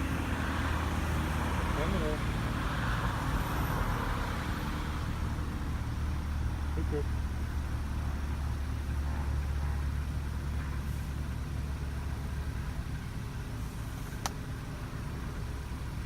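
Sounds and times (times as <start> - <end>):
engine idling rumble: 0.0 - 16.0.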